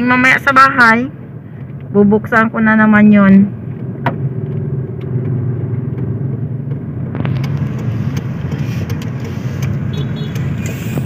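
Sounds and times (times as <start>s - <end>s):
car engine and road rumble: 0.0s - 11.0s
street noise with clicks: 0.4s - 2.7s, 3.4s - 11.0s.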